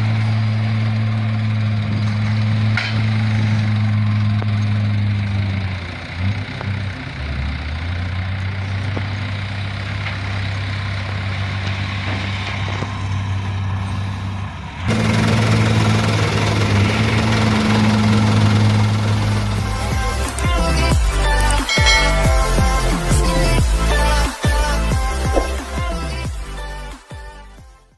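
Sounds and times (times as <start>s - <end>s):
dump truck diesel engine running: 0.0s - 27.9s.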